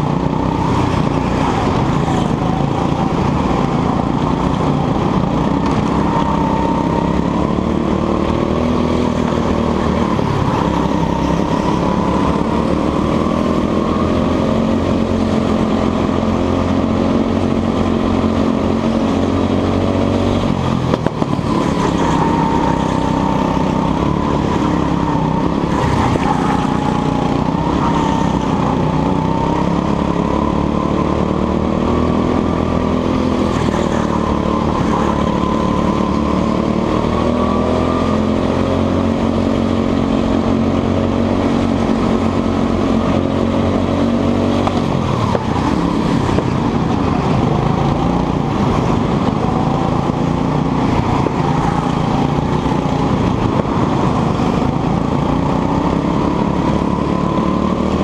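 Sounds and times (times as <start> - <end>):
go-kart engine at full throttle: 0.0 - 58.0.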